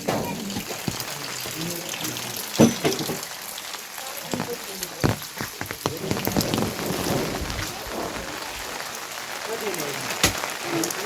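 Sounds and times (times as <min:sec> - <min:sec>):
heavy rain falling: 0:00.0 - 0:11.0
raindrops tapping surfaces: 0:00.0 - 0:11.0.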